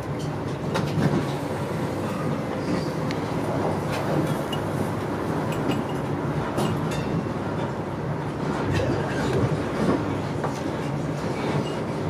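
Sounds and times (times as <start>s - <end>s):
train wheel-on-rail rumble: 0.0s - 12.0s.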